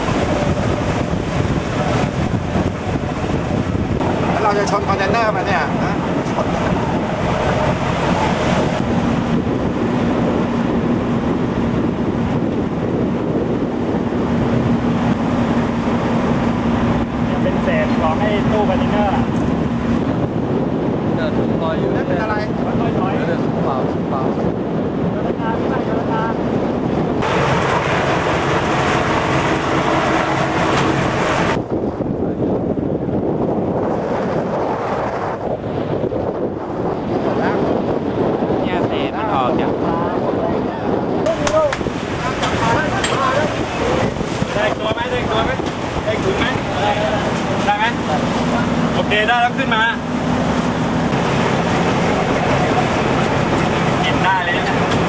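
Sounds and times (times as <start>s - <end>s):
boat engine humming: 0.0s - 55.0s
choppy sea wash: 0.0s - 55.0s
wind buffeting microphone: 0.0s - 55.0s.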